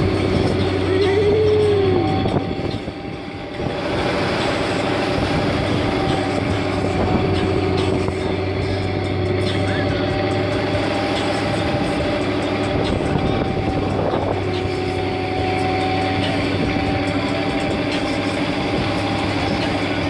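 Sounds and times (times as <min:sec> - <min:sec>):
boat engine running: 0:00.0 - 0:20.0
water splashing along hull: 0:00.0 - 0:20.0.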